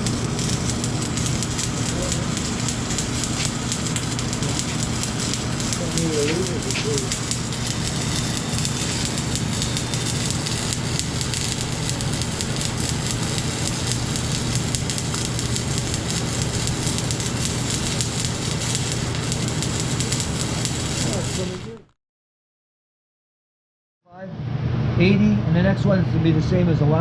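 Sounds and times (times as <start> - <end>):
low hum: 0.0 - 21.8
welding arc crackling: 0.0 - 21.9.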